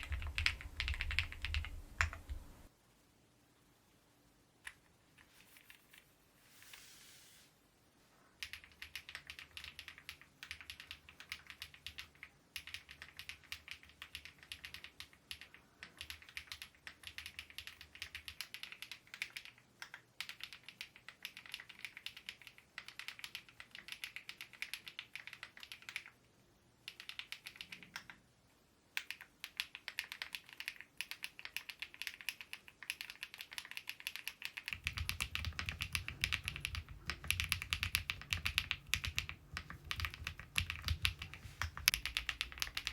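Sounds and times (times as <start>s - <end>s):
mechanical keyboard typing: 0.0s - 2.4s, 8.4s - 26.2s, 26.8s - 28.2s, 29.0s - 42.9s.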